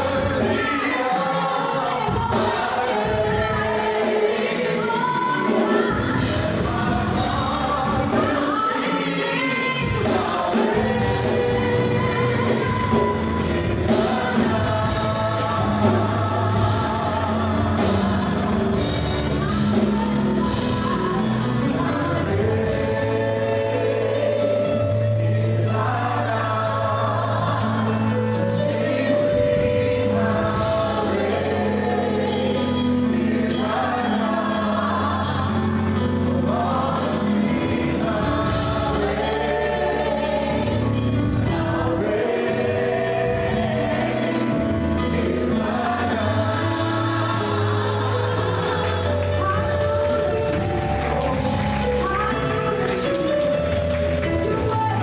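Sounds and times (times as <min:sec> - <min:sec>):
gospel choir singing: 0:00.0 - 0:55.0
instrumental backing with bass: 0:00.0 - 0:55.0.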